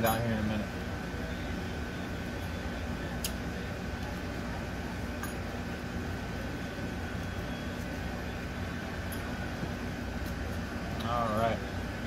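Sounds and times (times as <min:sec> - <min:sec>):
faint steady tone: 0:00.0 - 0:12.0
steady background hum: 0:00.0 - 0:12.0.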